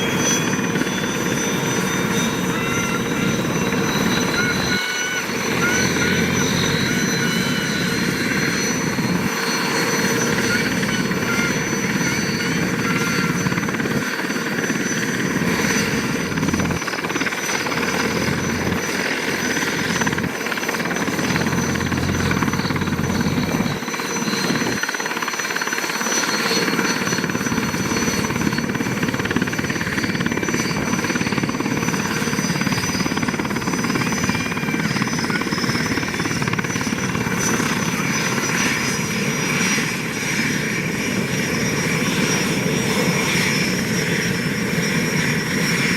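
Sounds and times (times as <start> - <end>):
helicopter engine and rotor noise: 0.0 - 45.9
turbine whine: 0.0 - 45.9.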